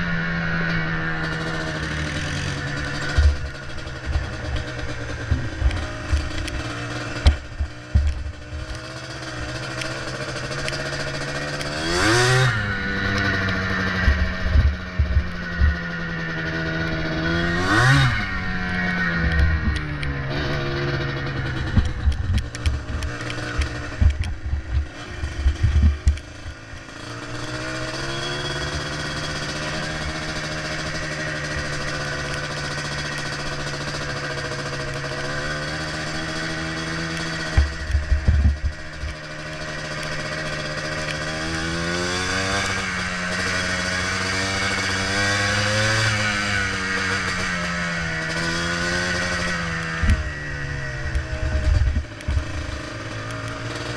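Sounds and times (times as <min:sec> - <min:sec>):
two-stroke engine running: 0:00.0 - 0:53.9.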